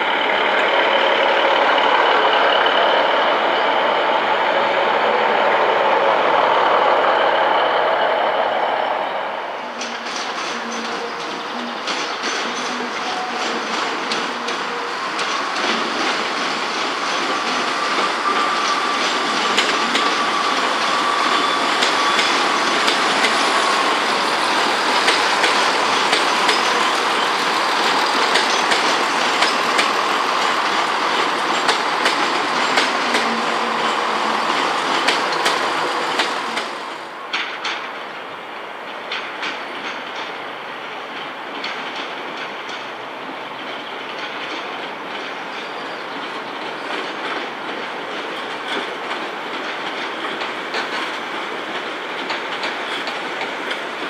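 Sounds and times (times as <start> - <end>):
train wheels clicking over rail joints: 0.0 - 7.9, 9.7 - 54.0.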